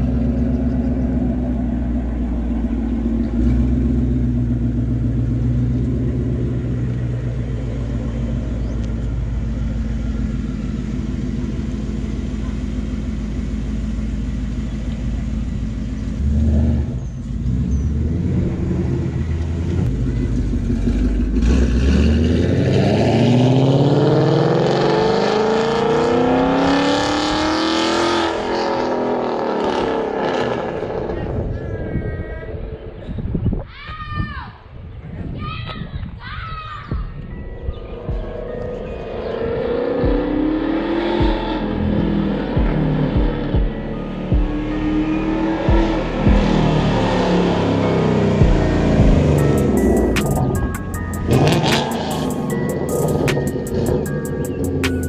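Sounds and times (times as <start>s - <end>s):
car engine idling and accelerating: 0.0s - 33.5s, 37.1s - 55.0s.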